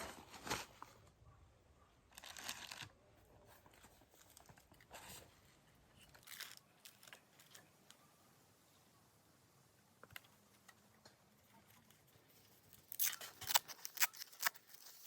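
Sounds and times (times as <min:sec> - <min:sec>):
faint rustling and crinkling: 0:00.0 - 0:09.0, 0:09.8 - 0:15.0.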